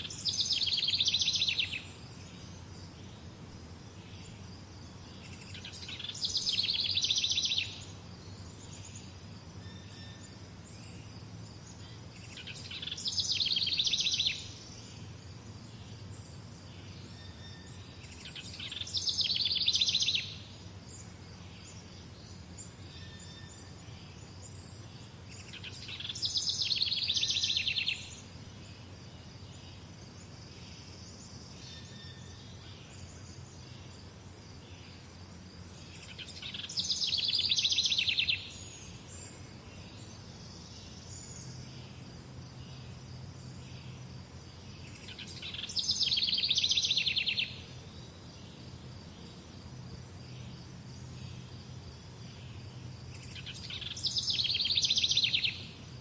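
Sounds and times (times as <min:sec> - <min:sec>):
low background hum: 0:00.0 - 0:56.0
songbird trilling song: 0:00.0 - 0:56.0.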